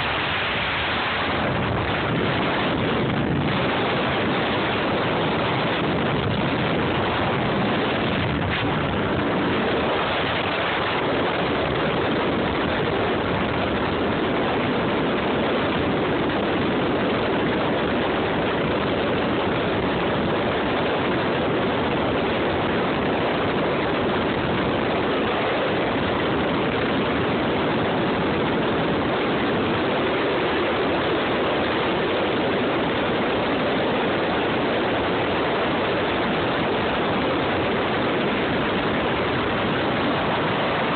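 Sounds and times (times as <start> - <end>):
water rushing: 0.0 - 40.9
wind rushing: 0.0 - 40.9.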